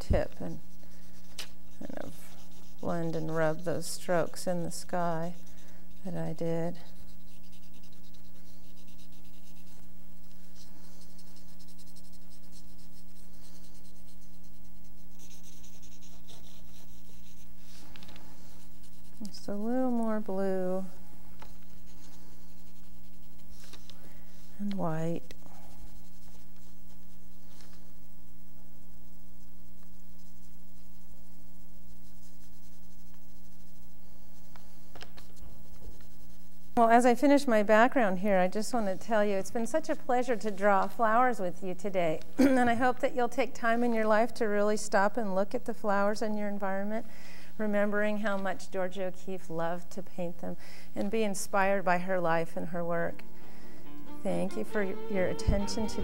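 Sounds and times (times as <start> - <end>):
cotton swab rubbing on paper: 0.0 - 47.0
low electrical hum: 0.0 - 56.0.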